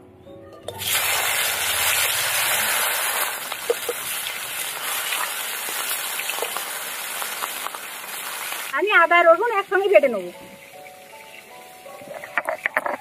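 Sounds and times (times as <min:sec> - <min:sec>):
oil popping: 0:00.7 - 0:08.8, 0:10.4 - 0:13.0
fish sizzling in hot oil: 0:00.7 - 0:13.0.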